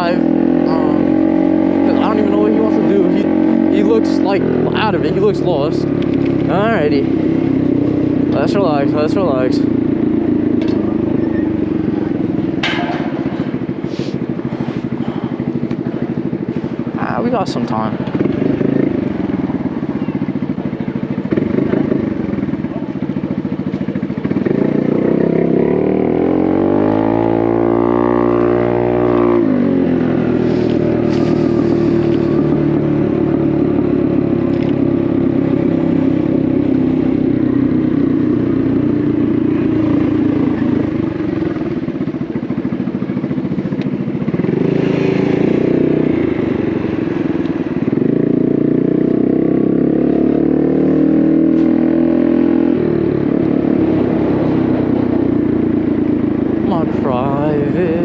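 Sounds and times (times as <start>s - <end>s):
small motorcycle engine revving: 0.0s - 58.0s.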